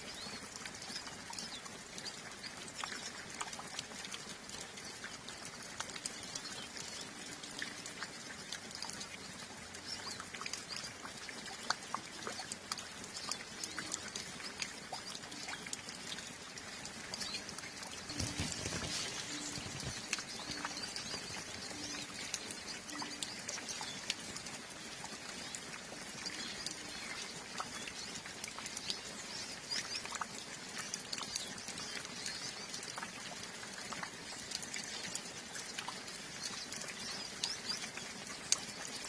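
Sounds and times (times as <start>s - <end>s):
small birds chirping: 0.0s - 33.3s
light rain: 0.0s - 39.0s
water dripping: 0.0s - 39.0s.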